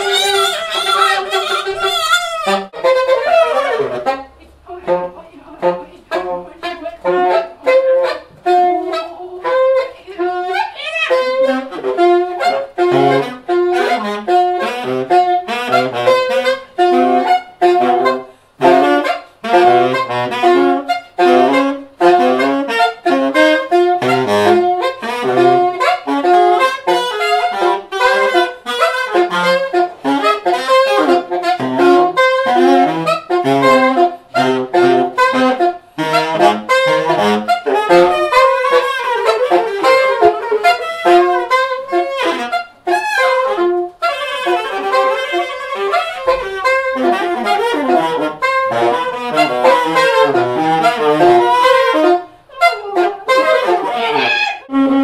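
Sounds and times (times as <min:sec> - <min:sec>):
saxophones improvising free jazz: 0:00.0 - 0:55.0.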